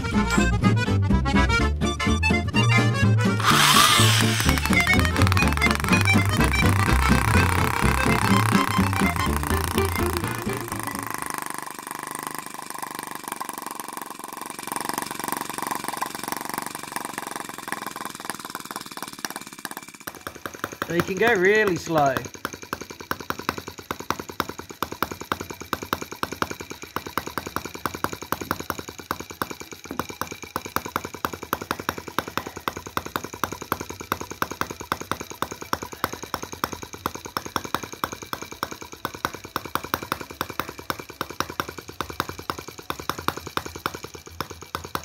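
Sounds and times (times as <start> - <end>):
small engine idling: 0.0 - 45.0.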